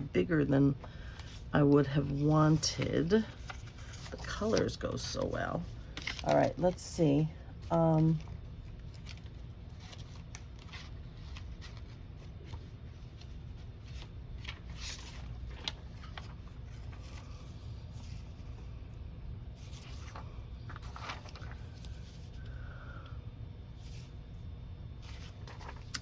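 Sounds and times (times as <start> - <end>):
steady low hum: 0.0 - 26.0
paper rustling: 0.8 - 6.8, 7.9 - 18.7, 19.5 - 22.6, 23.8 - 24.2, 25.0 - 26.0.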